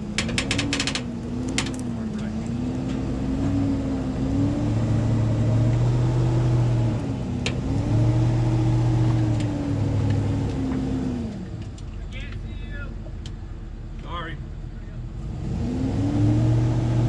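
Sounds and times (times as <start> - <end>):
truck engine under load: 0.0 - 17.0.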